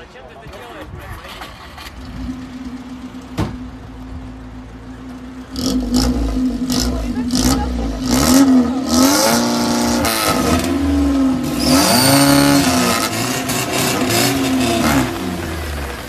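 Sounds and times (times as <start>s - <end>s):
car engine revving: 1.3s - 16.0s.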